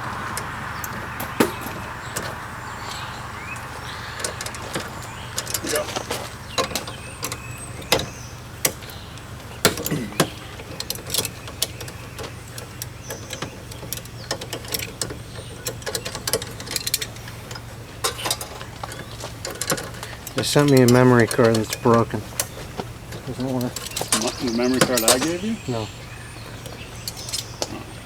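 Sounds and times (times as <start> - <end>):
hand tools clicking and knocking: 0.0 - 28.0
stiff wire being worked: 0.0 - 28.0.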